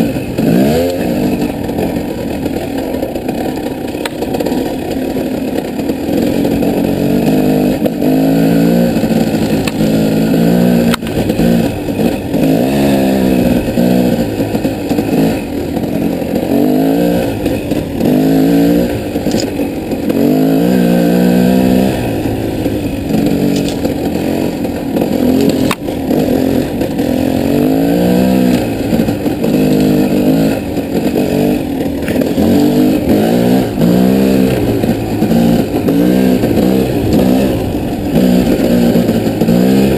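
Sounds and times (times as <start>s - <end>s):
off-road engine revving: 0.0s - 39.9s.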